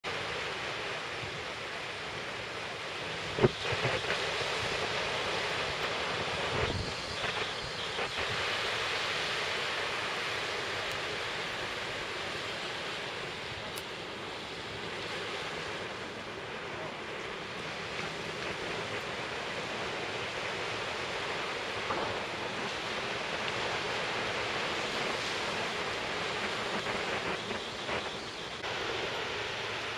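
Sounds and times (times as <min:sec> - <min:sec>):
wind and waves: 0:00.0 - 0:29.9.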